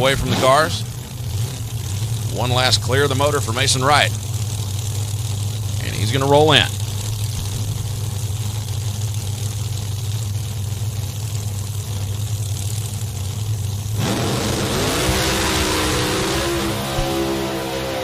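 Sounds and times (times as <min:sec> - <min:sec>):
drag car engines idling: 0:00.0 - 0:18.0
drag cars launching at full throttle: 0:00.0 - 0:18.0.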